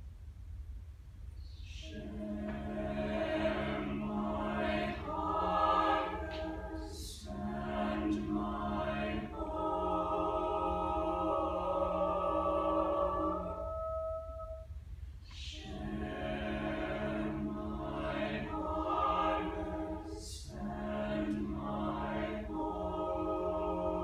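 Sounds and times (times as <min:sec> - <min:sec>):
choir singing a cappella: 0:01.6 - 0:14.7, 0:15.3 - 0:24.0.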